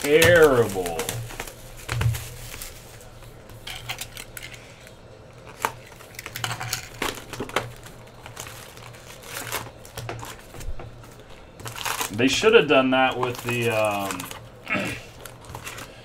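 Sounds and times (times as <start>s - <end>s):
foil packs crinkling and clicking: 0.0s - 16.0s.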